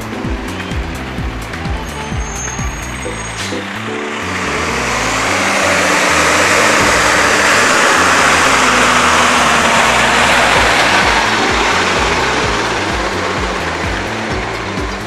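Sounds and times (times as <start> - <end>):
truck engine and tyre noise: 0.0 - 15.0.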